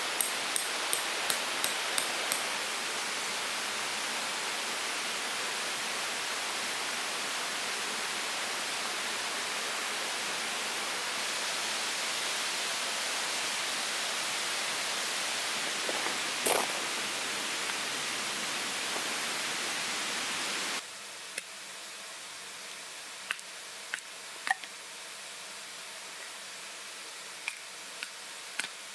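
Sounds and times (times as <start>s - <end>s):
outdoor background hiss: 0.0s - 28.9s.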